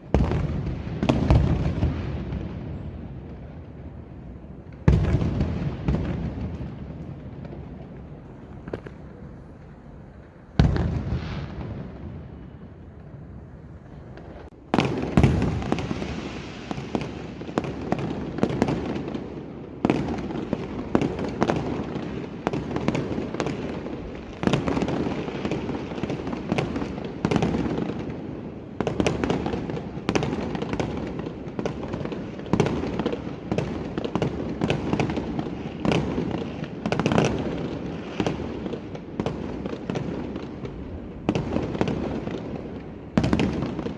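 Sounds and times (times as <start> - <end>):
firecrackers crackling: 0.0 - 43.9
fireworks bangs: 0.0 - 43.9.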